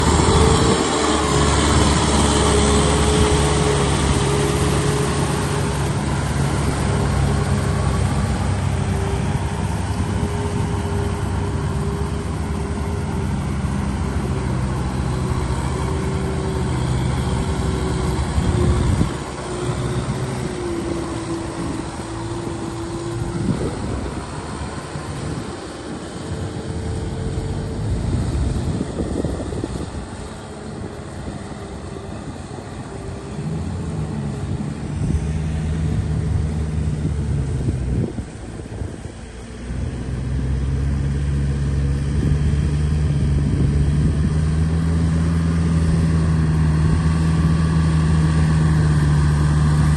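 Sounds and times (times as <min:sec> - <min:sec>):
tractor engine under load: 0:00.0 - 0:49.9.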